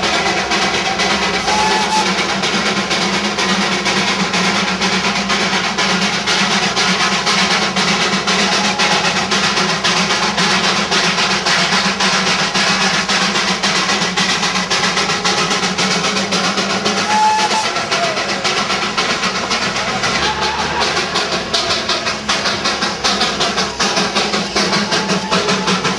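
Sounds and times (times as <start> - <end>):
steam locomotive exhaust chuffs: 0.0 - 25.9.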